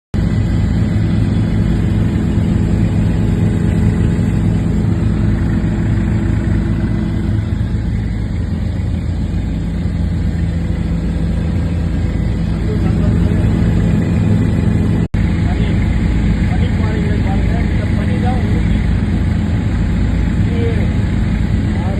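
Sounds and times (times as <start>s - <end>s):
helicopter engine and rotors: 0.2s - 21.9s.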